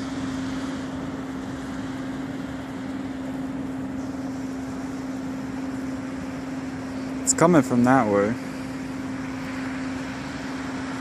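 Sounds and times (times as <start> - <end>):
broad rumbling wash: 0.0 - 11.0
steady low hum: 0.0 - 11.0.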